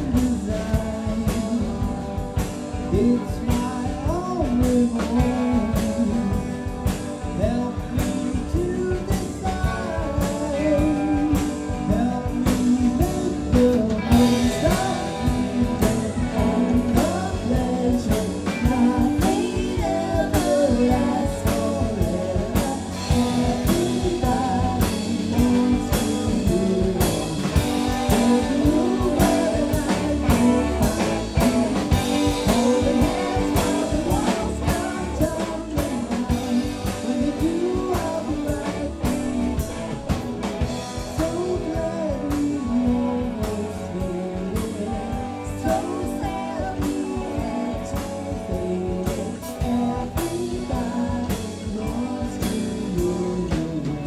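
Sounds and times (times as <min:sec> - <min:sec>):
live blues-rock band: 0:00.0 - 0:54.0
woman singing: 0:00.0 - 0:54.0.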